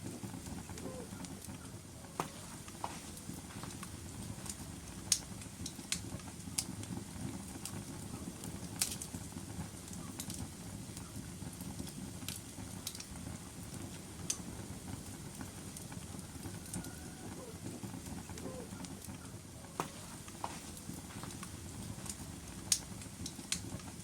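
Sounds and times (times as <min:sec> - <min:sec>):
fire flames rushing: 0:00.0 - 0:24.0
wood crackling and popping: 0:00.0 - 0:24.0.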